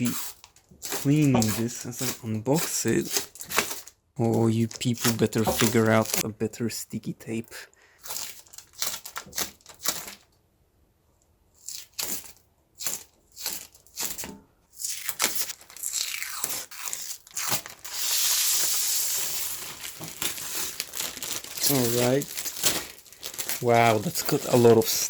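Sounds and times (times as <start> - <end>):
tape and plastic film peeling: 0.0 - 6.3, 8.1 - 10.4, 11.6 - 25.0.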